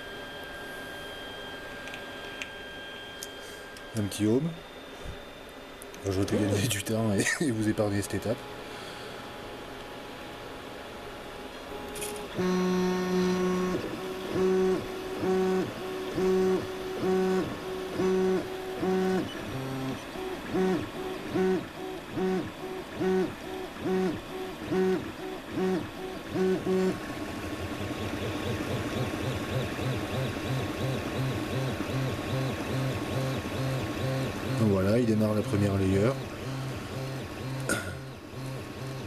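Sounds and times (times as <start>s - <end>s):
stepper motors humming: 3.2s - 39.0s.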